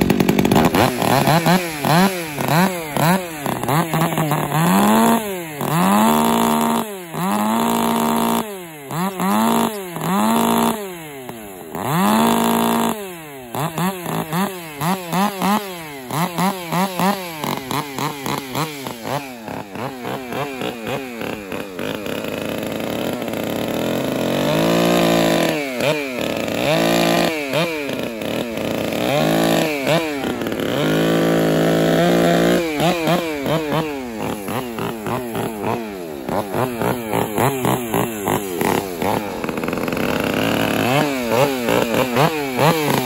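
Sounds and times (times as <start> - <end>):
chainsaw throttle revving: 0.0 - 43.0.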